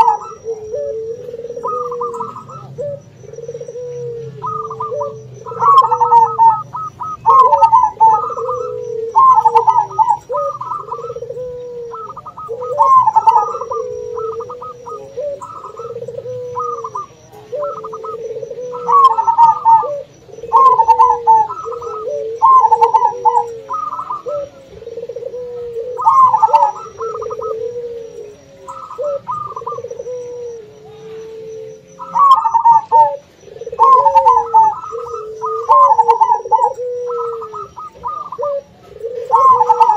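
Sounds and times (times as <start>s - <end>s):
dove trilling coos: 0.0s - 39.9s
low dove cooing: 0.0s - 39.9s.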